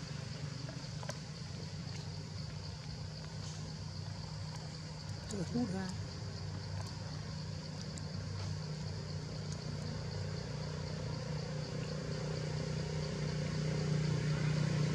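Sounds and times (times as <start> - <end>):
engine humming: 0.0 - 14.9.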